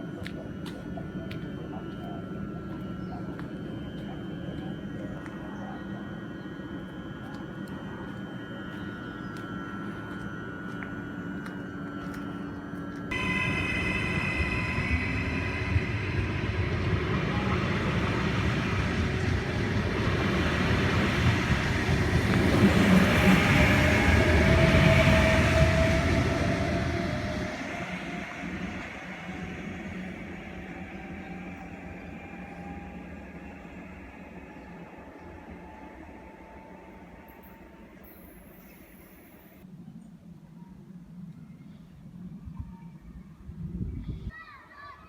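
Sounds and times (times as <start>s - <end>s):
high ringing whine: 0.0s - 39.7s
train rumble and wheel noise: 0.0s - 39.8s.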